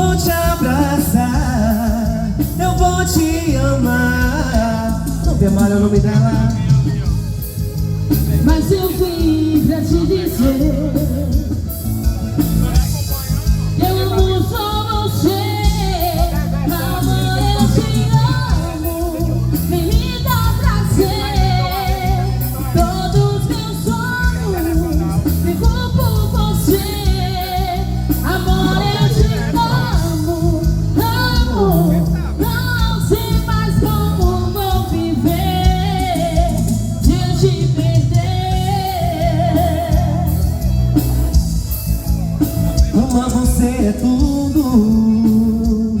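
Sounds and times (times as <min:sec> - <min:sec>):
band backing with beat: 0:00.0 - 0:46.0
person singing pop song: 0:00.0 - 0:46.0.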